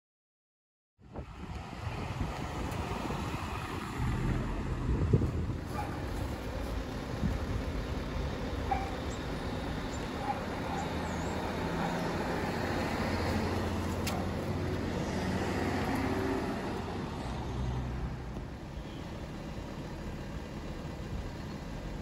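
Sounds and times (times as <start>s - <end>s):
road traffic noise: 1.0s - 22.0s
vehicle engine rumble: 1.0s - 22.0s.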